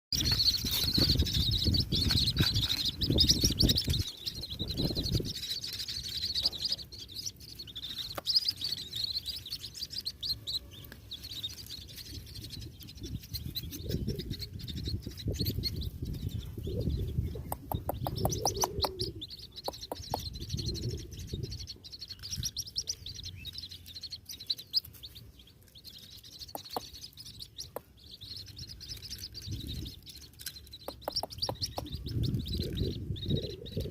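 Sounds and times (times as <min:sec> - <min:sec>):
bird chick peeping: 0:00.1 - 0:33.9.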